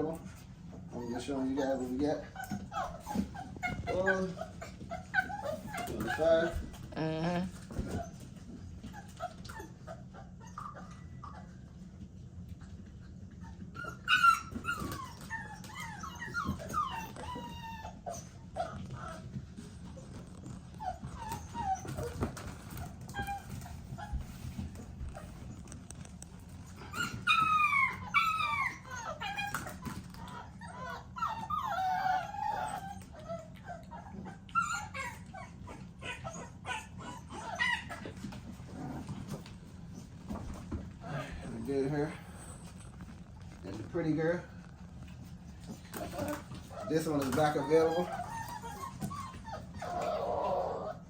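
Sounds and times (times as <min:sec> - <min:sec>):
puppy whining and yelping: 0:00.2 - 0:51.0.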